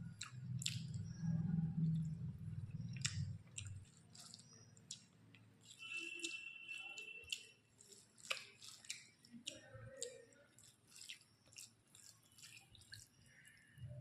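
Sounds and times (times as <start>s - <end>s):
mouth clicks and smacks: 0.0s - 13.7s
soft wet chewing: 0.0s - 13.9s.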